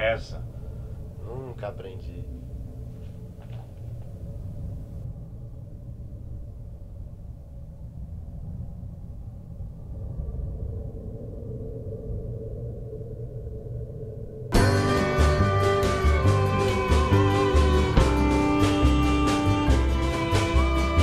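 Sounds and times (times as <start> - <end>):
faint hum: 0.0 - 20.9
low room rumble: 0.0 - 21.0.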